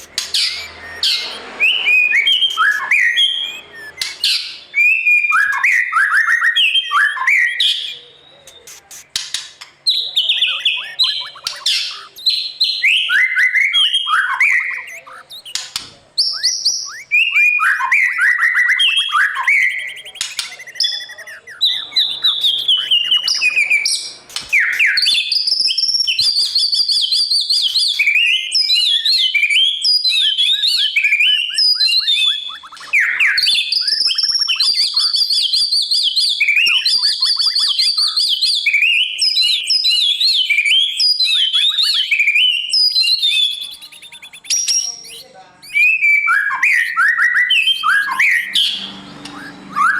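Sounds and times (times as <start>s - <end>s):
songbird singing whistled phrases: 0.0s - 49.9s.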